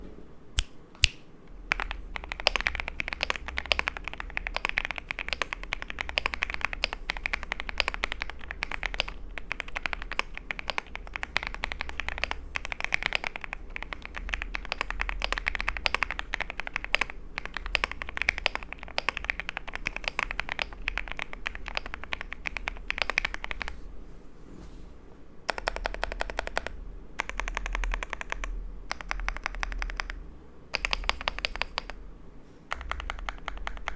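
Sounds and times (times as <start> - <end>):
fast typing on mechanical keyboard: 1.7 - 23.7, 25.5 - 32.0, 32.7 - 33.9.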